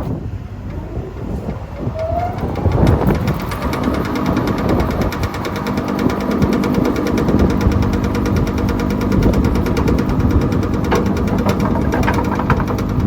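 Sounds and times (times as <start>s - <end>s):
shredder machine hum: 0.2s - 13.0s
vibrating feed chute rattle: 0.2s - 13.0s.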